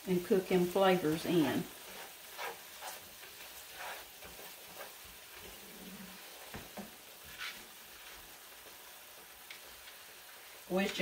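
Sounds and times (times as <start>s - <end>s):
spices sizzling in oil: 0.0s - 11.0s
wooden spatula scraping and tapping: 1.1s - 10.1s.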